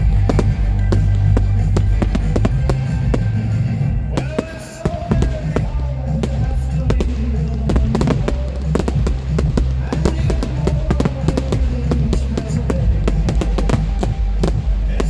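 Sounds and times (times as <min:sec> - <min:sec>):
fireworks bangs and crackles: 0:00.0 - 0:15.0
loud music with singing: 0:00.0 - 0:15.0.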